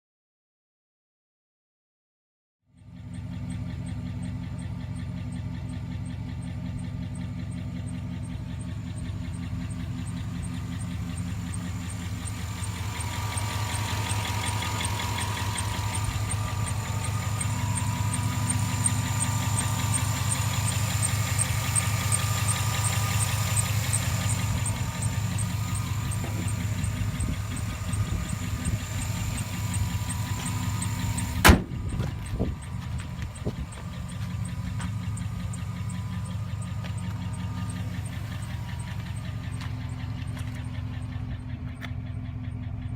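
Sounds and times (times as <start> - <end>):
engine idling with fast ticking: 2.8 - 42.9.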